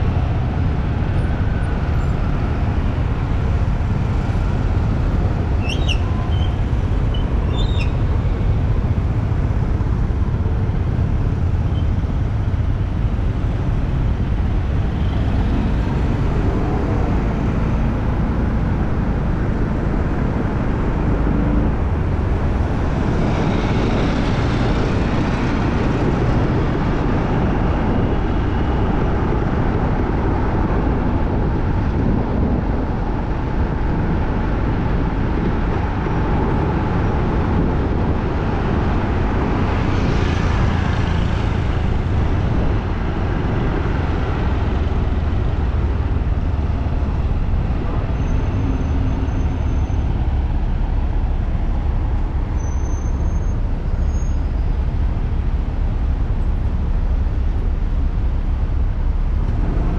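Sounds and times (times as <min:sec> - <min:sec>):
passing road traffic rumble: 0:00.0 - 0:59.9.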